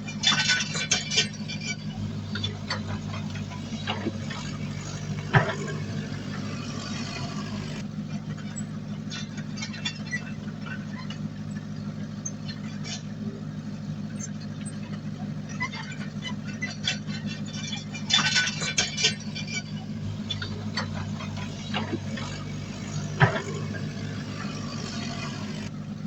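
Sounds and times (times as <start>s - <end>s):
metallic clanks and rattles: 0.0s - 13.2s, 14.2s - 25.7s
diesel engine running: 0.0s - 26.0s.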